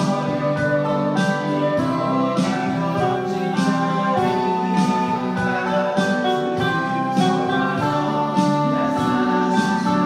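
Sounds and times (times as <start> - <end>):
instrumental music with steady beat: 0.0 - 10.0.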